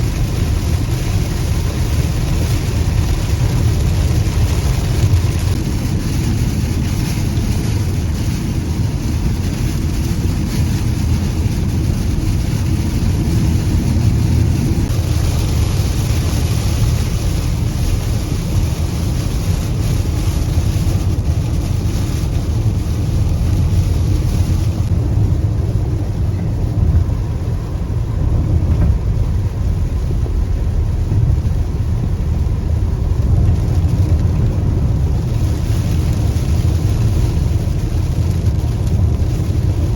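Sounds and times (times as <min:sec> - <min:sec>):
car interior road rumble: 0:00.0 - 0:39.9.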